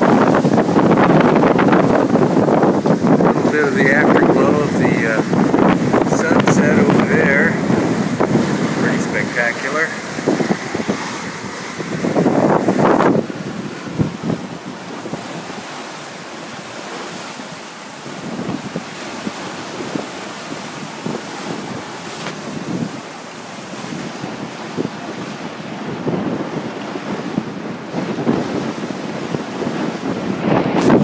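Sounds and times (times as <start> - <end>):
waves rushing along boat: 0.0 - 31.0
wind buffeting microphone: 0.0 - 31.0.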